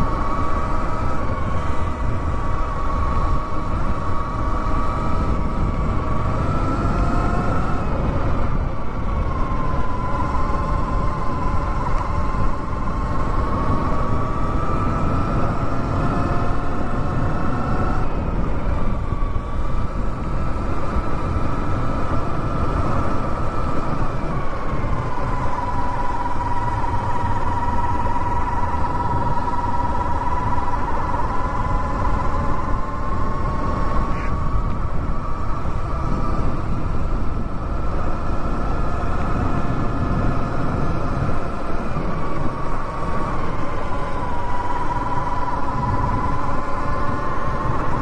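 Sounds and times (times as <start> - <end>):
electric dirt bike motor whining: 0.0 - 48.0
wind and tyre noise: 0.0 - 48.0.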